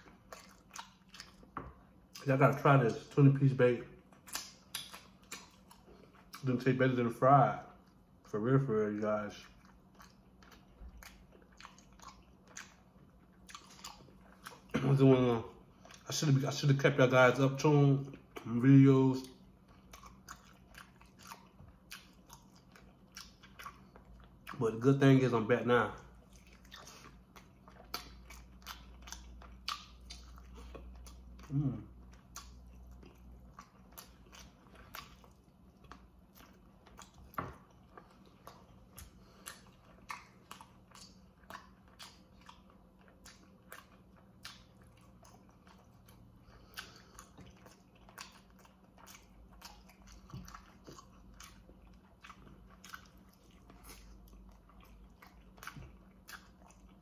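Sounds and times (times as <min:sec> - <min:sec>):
chewing mouth clicks: 0:00.0 - 0:03.2, 0:04.0 - 0:06.6, 0:09.3 - 0:15.0, 0:19.2 - 0:25.0, 0:26.0 - 0:57.0.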